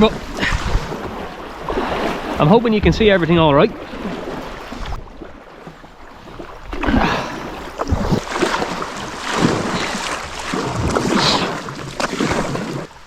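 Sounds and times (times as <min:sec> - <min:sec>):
paddle splashing in water: 0:00.0 - 0:13.0.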